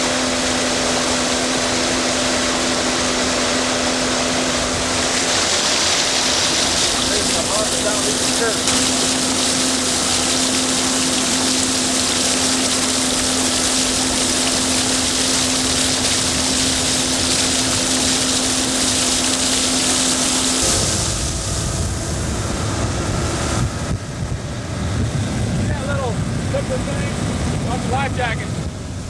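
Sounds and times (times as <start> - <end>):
motorboat engine running: 0.0 - 29.0
water and wind hiss: 0.0 - 29.0.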